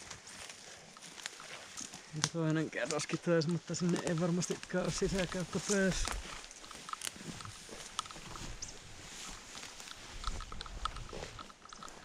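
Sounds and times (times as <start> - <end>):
footsteps through long grass: 0.0 - 12.0
faint clicks: 0.9 - 12.0.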